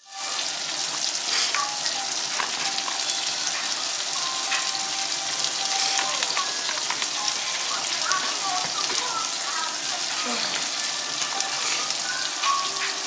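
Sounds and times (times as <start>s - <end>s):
onions sizzling in a pan: 0.0s - 13.0s.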